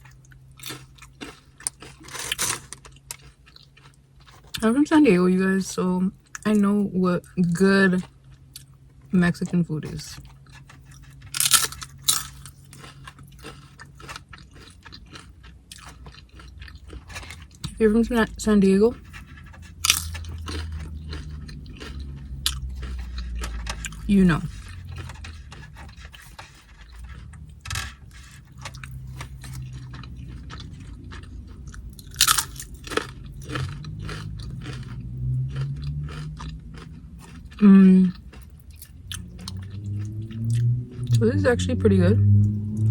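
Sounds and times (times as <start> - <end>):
person crunching chips: 0.0 - 4.6, 8.0 - 41.2.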